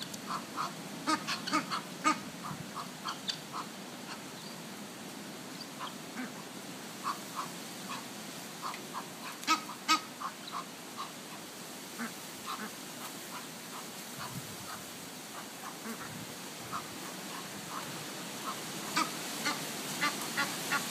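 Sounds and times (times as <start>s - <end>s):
geese peeping and quacking: 0.0s - 4.5s, 5.7s - 20.9s
sharp goose calls: 0.2s - 4.3s, 5.8s - 6.4s, 7.0s - 11.4s, 12.0s - 20.9s.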